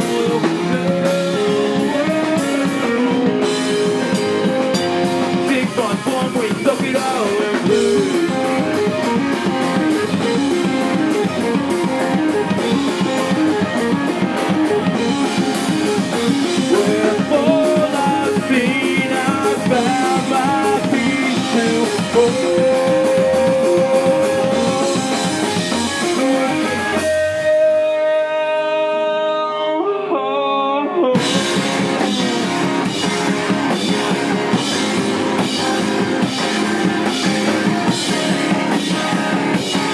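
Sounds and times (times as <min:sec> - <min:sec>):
electric guitar ringing: 0:00.0 - 0:39.9
live rock band playing: 0:00.0 - 0:39.9.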